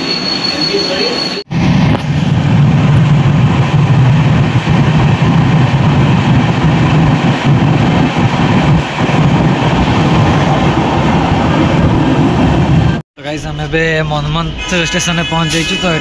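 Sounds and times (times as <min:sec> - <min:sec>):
train rumbling in a tunnel: 0:00.0 - 0:16.0.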